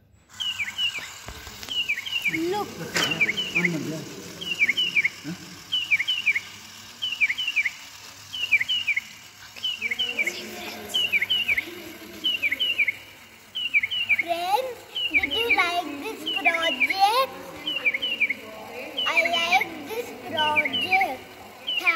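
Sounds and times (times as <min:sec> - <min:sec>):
bird-like chirping: 0:00.3 - 0:21.9.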